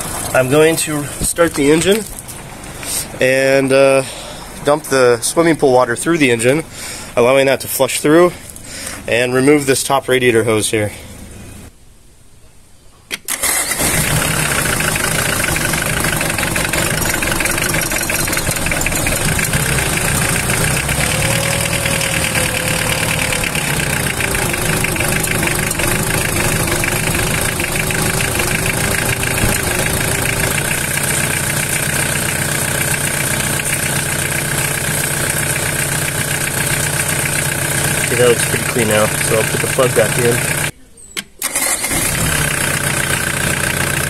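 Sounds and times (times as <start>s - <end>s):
diesel engine idling: 0.0s - 7.2s, 13.4s - 40.7s, 41.5s - 44.0s.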